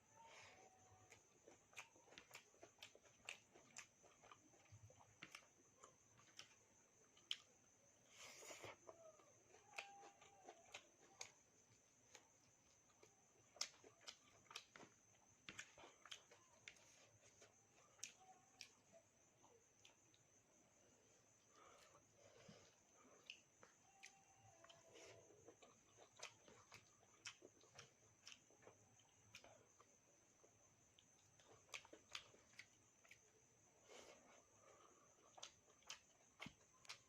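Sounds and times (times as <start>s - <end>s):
chewing: 0.2s - 37.0s.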